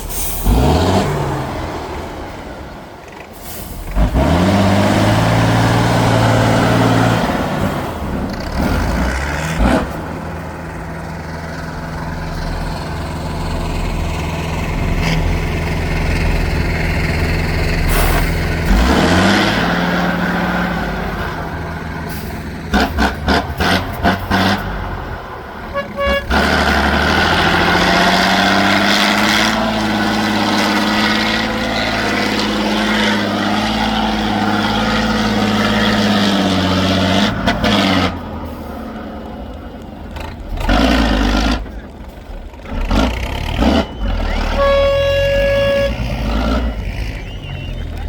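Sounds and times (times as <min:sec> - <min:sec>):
truck engine under load: 0:00.0 - 0:48.0.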